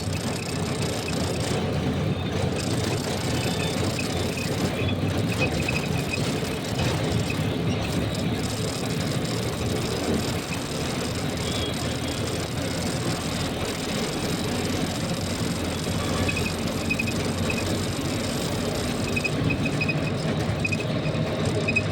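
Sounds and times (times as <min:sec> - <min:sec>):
truck traffic rumble: 0:00.0 - 0:21.9
vehicle engines idling: 0:00.0 - 0:21.9.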